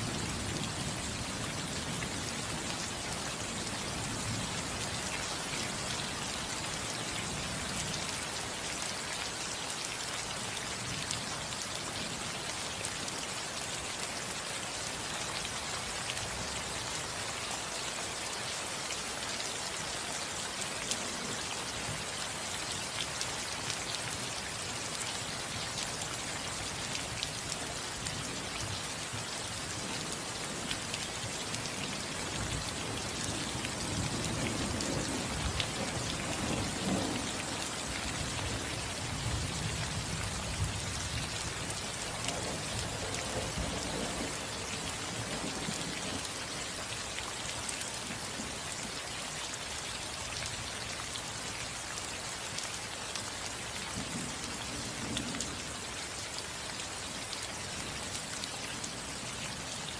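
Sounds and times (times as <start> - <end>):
rain pattering on a roof: 0.0 - 59.9.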